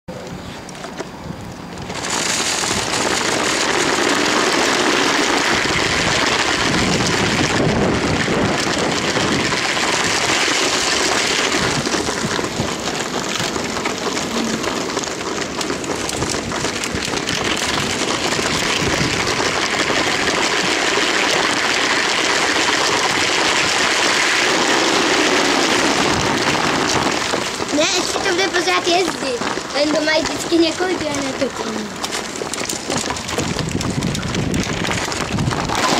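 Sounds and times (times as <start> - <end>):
toy train rattling on track: 1.8 - 35.9.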